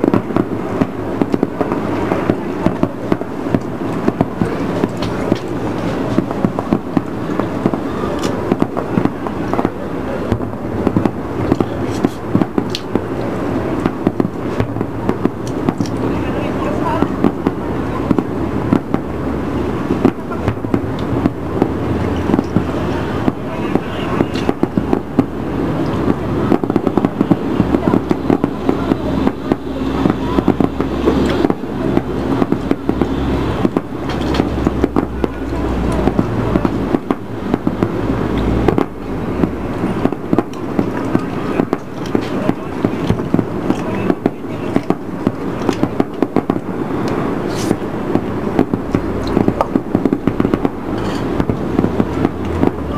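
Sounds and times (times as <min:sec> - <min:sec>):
fireworks popping and banging: 0:00.0 - 0:52.9.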